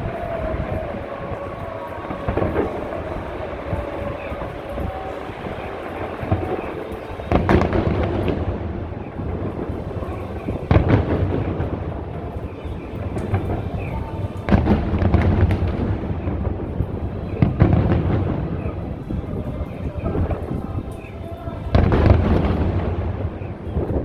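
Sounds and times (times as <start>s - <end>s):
firework shells booming: 0.0s - 24.0s
rolling rumble and crackle: 0.0s - 24.0s.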